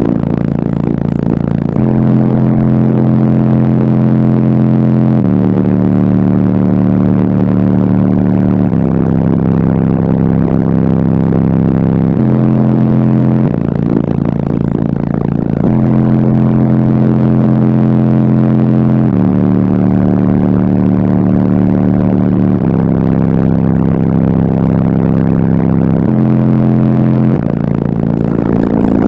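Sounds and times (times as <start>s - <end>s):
loud bass-heavy music in a car: 0.0s - 29.0s.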